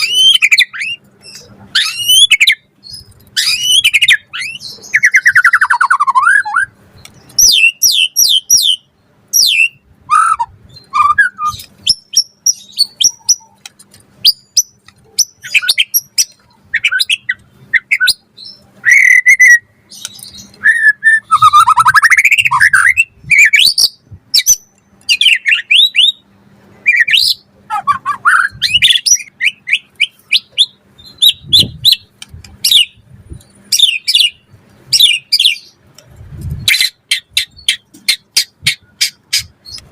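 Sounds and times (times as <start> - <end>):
songbird whistles and trills: 0.0 - 26.2, 26.8 - 33.0, 33.7 - 35.8.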